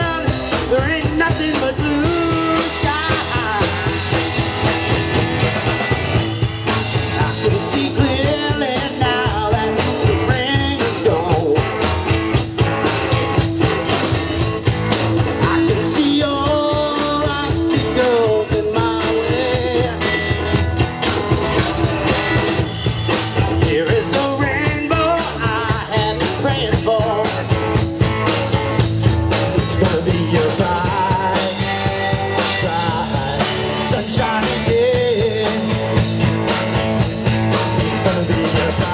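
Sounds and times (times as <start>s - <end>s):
man singing: 0.0s - 4.8s, 6.2s - 12.2s, 15.2s - 22.4s, 23.4s - 27.9s, 29.3s - 38.9s
drum kit: 0.0s - 38.9s
electric guitars: 0.0s - 38.9s.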